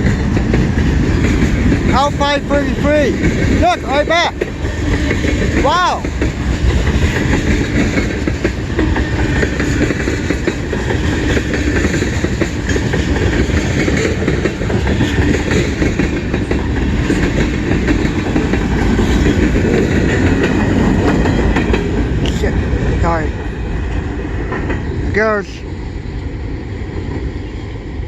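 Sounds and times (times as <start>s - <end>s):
train wheels clacking over rail joints: 0.0s - 25.6s.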